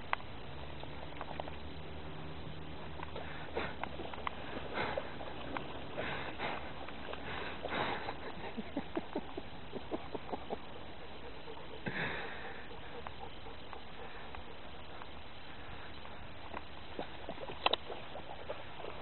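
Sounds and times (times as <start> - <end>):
dog splashing in shallow water: 0.0 - 15.0, 15.6 - 19.0.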